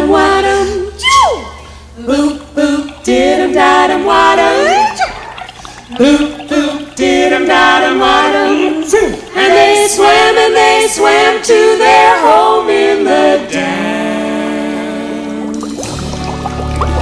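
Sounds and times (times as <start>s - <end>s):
close-harmony vocal trio singing: 0.0s - 16.1s.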